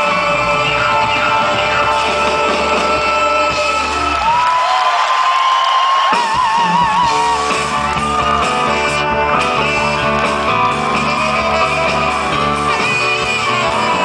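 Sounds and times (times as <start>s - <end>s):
person singing with vibrato: 0.0s - 4.4s, 6.5s - 14.0s
live band playing: 0.0s - 14.0s.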